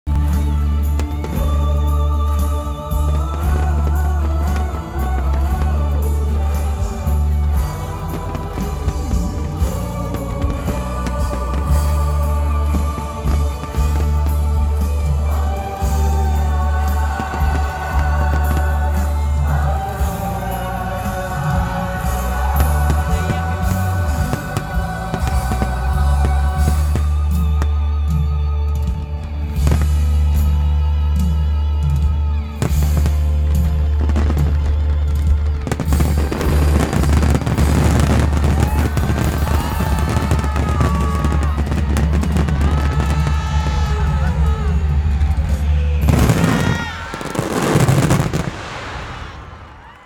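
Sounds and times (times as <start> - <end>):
loud music with heavy bass: 0.0 - 49.2.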